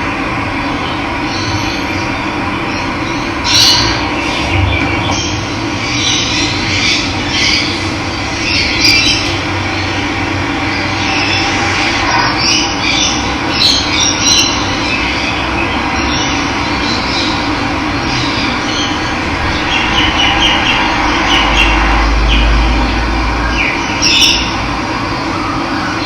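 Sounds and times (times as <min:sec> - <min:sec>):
birds chirping: 0:00.6 - 0:26.0.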